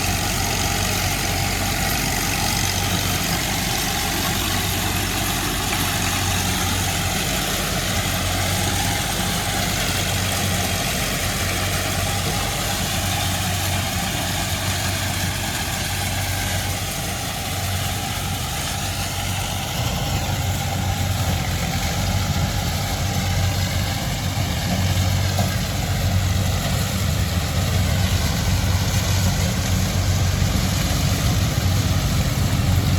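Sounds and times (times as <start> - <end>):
farm machine engine running: 0.0 - 32.9.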